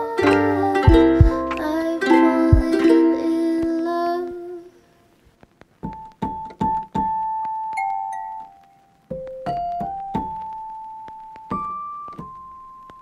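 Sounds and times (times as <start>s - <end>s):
instrumental music: 0.0s - 4.7s, 5.8s - 13.0s.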